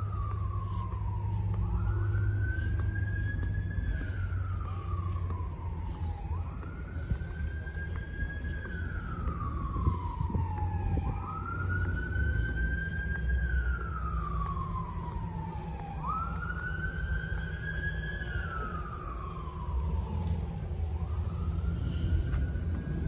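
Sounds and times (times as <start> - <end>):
emergency siren wailing: 0.0 - 23.0
low rumble: 0.0 - 23.0.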